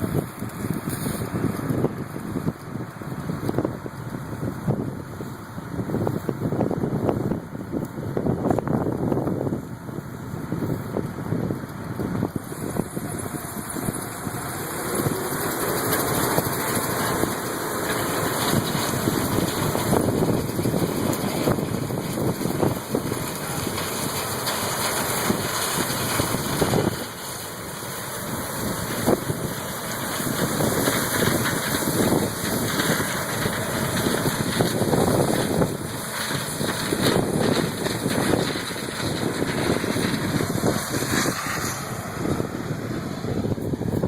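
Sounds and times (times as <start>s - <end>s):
combine harvester running: 0.0s - 44.0s
wind buffeting microphone: 0.0s - 44.0s.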